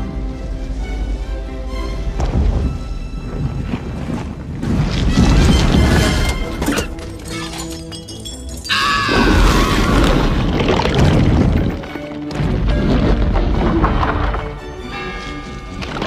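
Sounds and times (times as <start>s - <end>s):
loud film score music: 0.0s - 4.5s, 5.1s - 16.0s.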